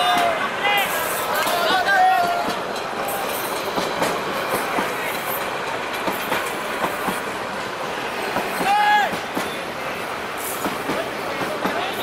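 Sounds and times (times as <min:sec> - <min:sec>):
train coaches rolling past: 0:00.0 - 0:12.0.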